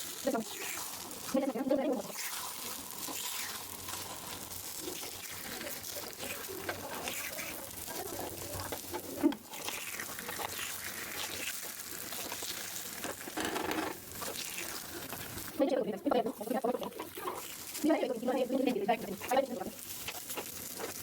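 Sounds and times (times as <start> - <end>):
batter sizzling: 0.0 - 21.0.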